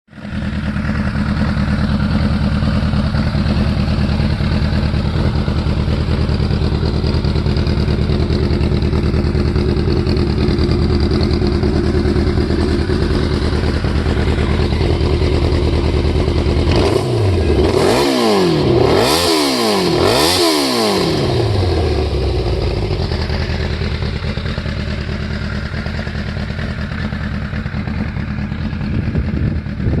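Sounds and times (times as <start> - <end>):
motorcycle engine idling and revving: 0.1 - 30.0.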